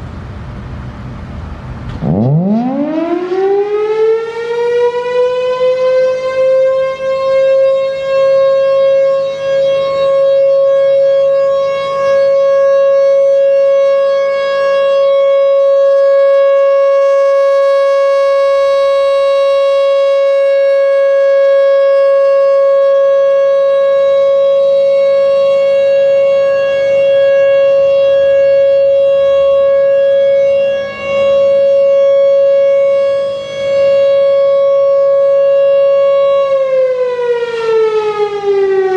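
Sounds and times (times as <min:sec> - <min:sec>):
warning siren alert tone: 0:01.9 - 0:38.9.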